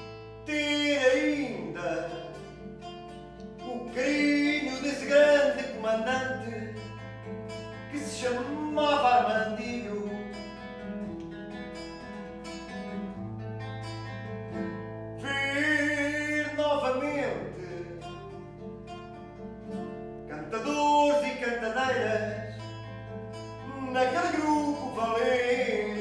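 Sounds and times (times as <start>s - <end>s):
plucked acoustic guitar: 0.0s - 26.0s.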